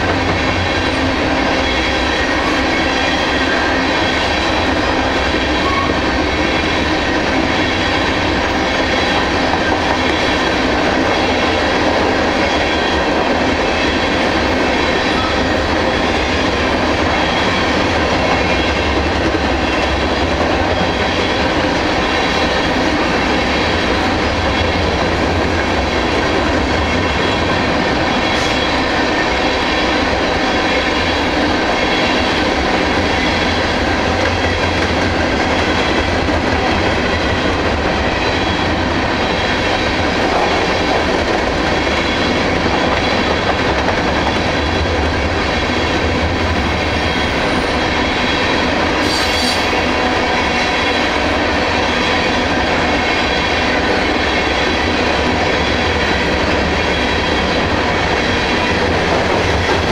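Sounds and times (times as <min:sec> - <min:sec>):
freight train wheels on rail: 0:00.0 - 0:59.9.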